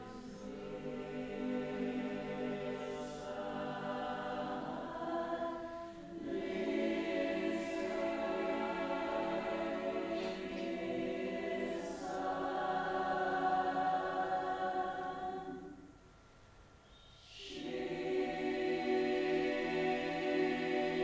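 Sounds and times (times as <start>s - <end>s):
choir singing sustained chords: 0.0s - 16.3s, 16.9s - 21.0s.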